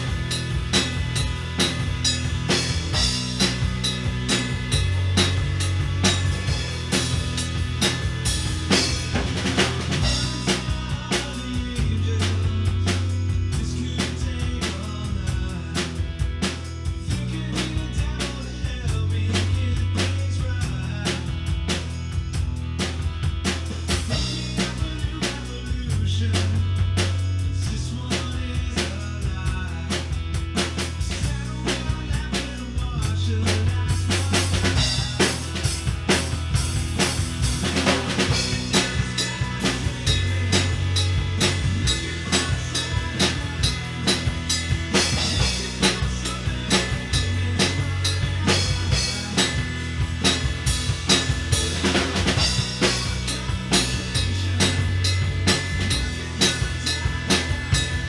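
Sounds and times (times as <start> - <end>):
drum kit playing rock beat: 0.0 - 58.0
rock backing track: 0.0 - 58.0.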